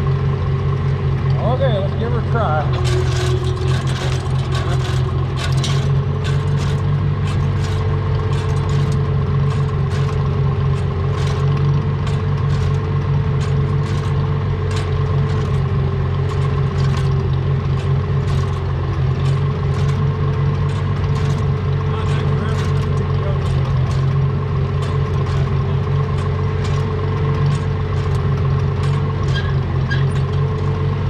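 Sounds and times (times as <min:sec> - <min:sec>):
tractor engine running under load: 0:00.0 - 0:31.0
clicks and rattles: 0:01.2 - 0:31.0.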